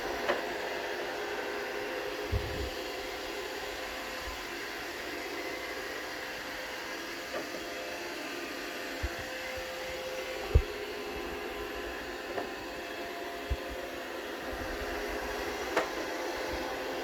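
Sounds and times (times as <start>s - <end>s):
robot vacuum motors humming: 0.0s - 17.0s.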